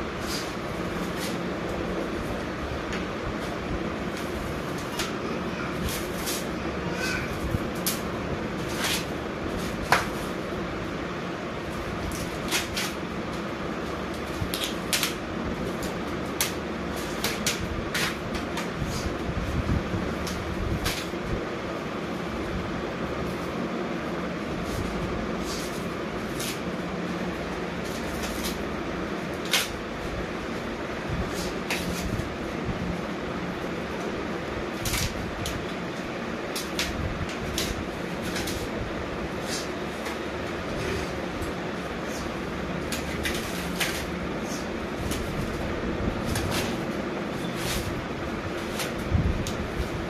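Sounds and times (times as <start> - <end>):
steady background hum: 0.0 - 50.0.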